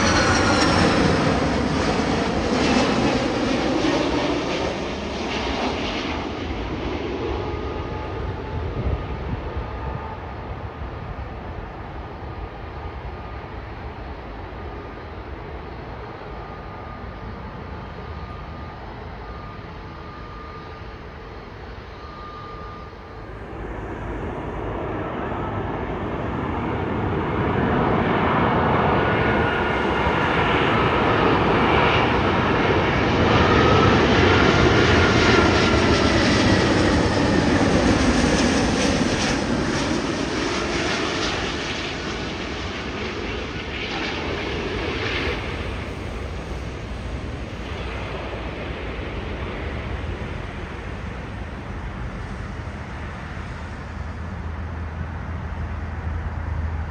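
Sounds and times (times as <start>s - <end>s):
jet airliner passing overhead: 0.0s - 56.9s.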